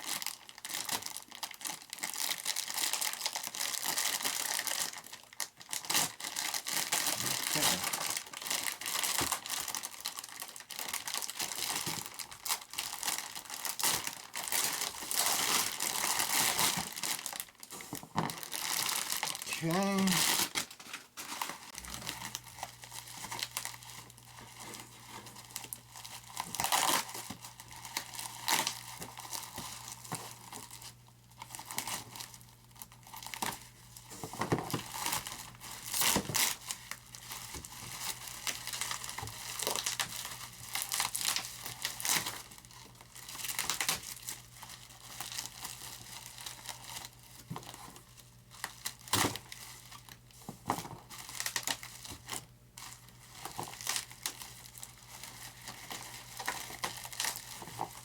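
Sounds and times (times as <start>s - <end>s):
plastic wrapping crinkling: 0.0s - 58.0s.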